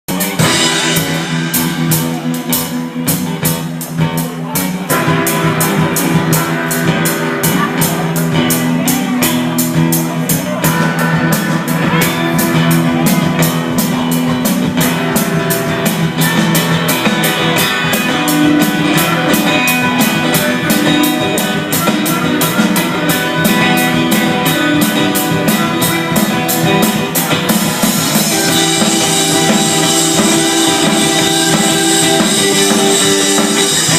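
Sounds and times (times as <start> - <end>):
drum kit beat: 0.1 - 33.9
rock band playing: 0.1 - 33.9.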